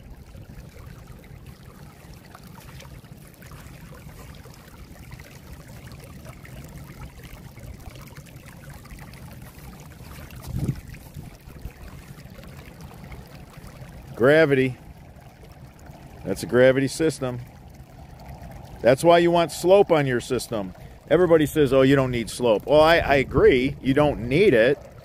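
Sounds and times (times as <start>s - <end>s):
water trickling and burbling: 0.0s - 25.0s.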